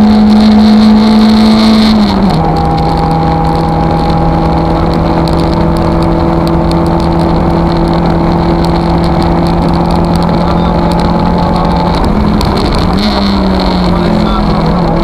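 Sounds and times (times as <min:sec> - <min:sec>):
rally car engine revving hard: 0:00.0 - 0:15.0.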